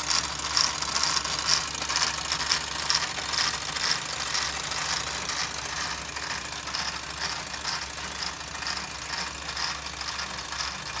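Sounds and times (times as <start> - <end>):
mechanical ticking and rattling: 0.0 - 11.0.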